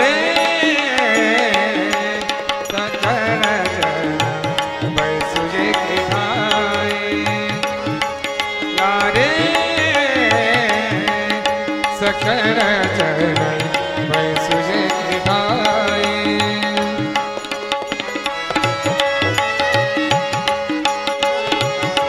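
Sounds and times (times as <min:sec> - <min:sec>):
harmonium: 0:00.0 - 0:22.0
person singing: 0:00.0 - 0:22.0
tabla rhythm: 0:00.0 - 0:22.0
violin: 0:00.0 - 0:22.0.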